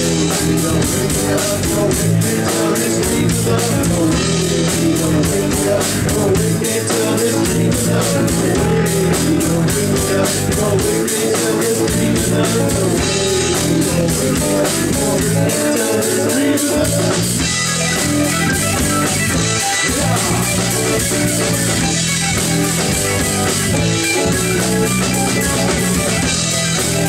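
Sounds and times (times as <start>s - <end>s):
drum kit steady beat: 0.0s - 27.0s
electric guitars: 0.0s - 27.0s.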